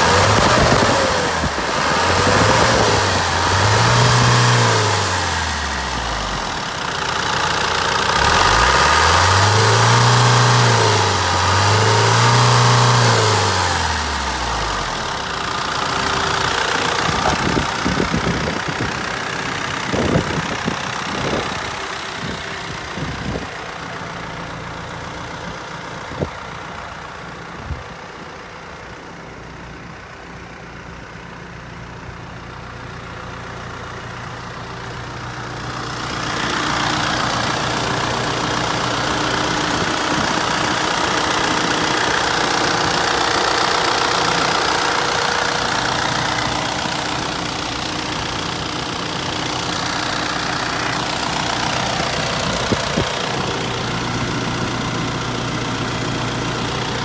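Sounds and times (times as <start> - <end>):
diesel engine revving: 0.0 - 29.0, 32.2 - 57.0
engine idling: 0.0 - 57.0.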